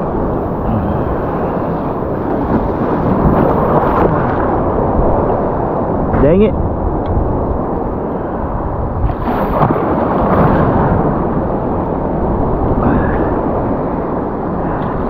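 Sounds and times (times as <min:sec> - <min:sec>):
surf waves washing and breaking: 0:00.0 - 0:15.0.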